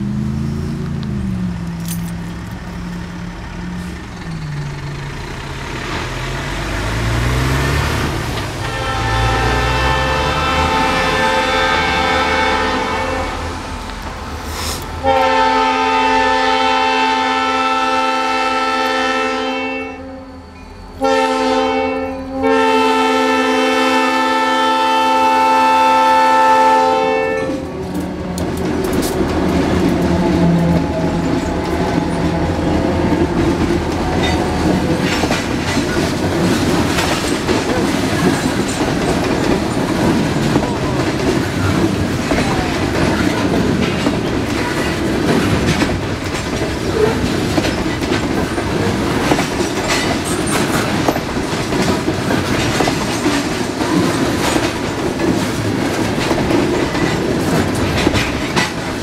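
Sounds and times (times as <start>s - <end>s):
diesel locomotive engine drone: 0.0s - 59.0s
train wheels clattering on rails: 0.8s - 19.0s, 27.1s - 59.0s.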